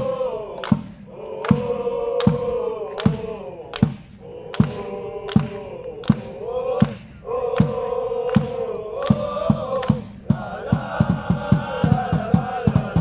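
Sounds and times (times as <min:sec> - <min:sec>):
football crowd chanting: 0:00.0 - 0:13.0
bass drum beating: 0:00.7 - 0:13.0.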